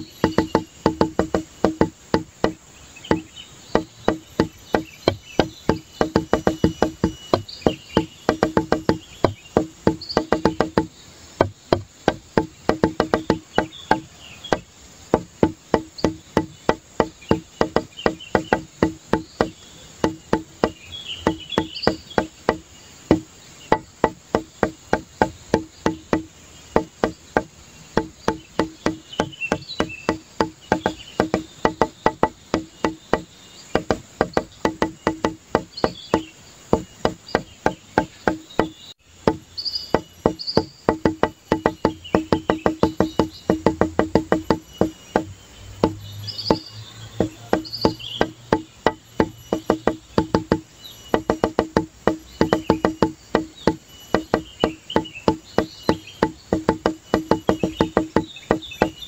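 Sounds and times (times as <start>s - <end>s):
wood-block percussion music: 0.0s - 59.0s.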